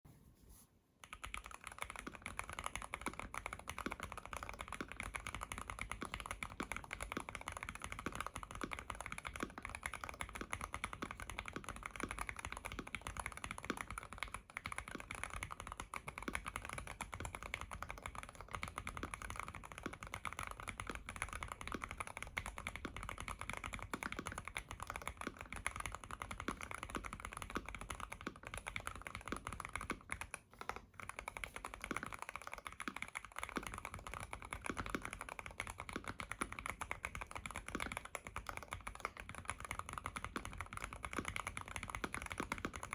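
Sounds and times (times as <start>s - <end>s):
typing on mechanical keyboard: 1.0s - 42.9s.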